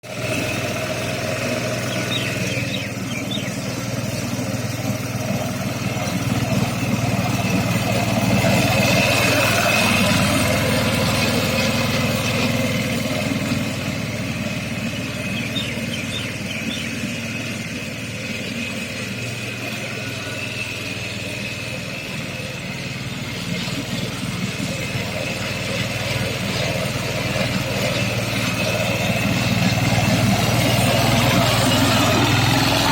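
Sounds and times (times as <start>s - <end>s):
lawn mower engine cutting grass: 0.0s - 32.9s.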